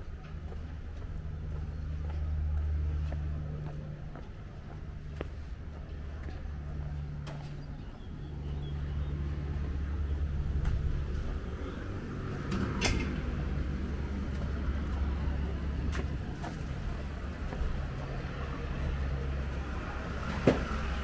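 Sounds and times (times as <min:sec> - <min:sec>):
traffic engine rumble: 0:00.0 - 0:21.0.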